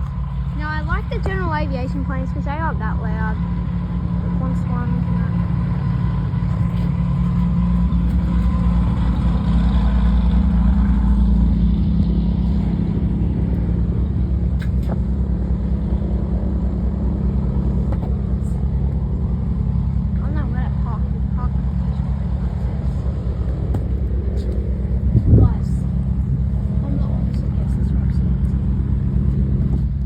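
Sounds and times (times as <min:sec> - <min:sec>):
jet engines landing: 0:00.0 - 0:30.0
steady low rumble: 0:00.0 - 0:30.0.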